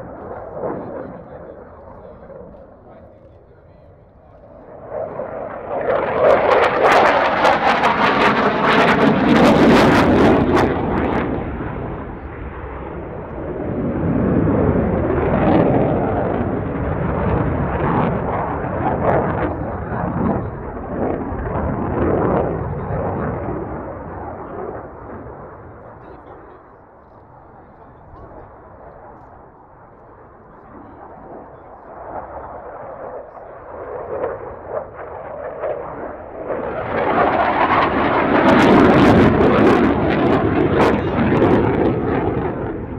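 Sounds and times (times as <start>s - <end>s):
jet engine rumble: 0.0s - 42.9s.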